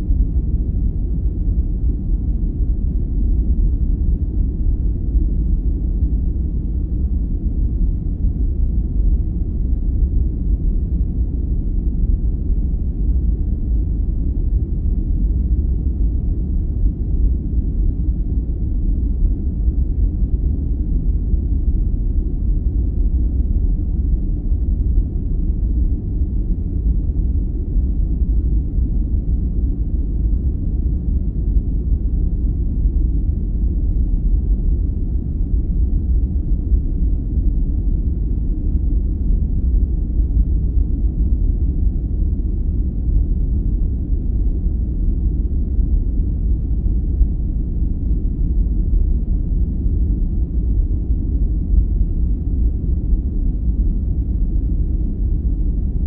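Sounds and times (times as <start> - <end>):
deep brown noise rumble: 0.0 - 56.0.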